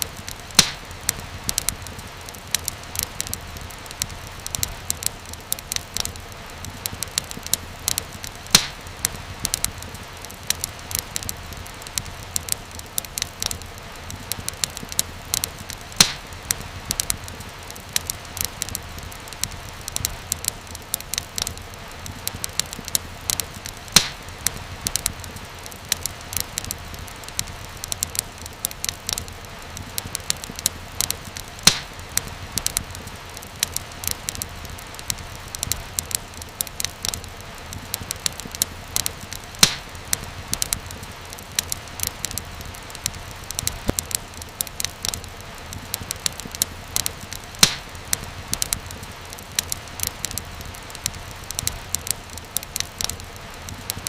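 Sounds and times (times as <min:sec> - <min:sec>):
low rumble of fire: 0:00.0 - 0:54.0
wood fire crackling: 0:00.0 - 0:54.0.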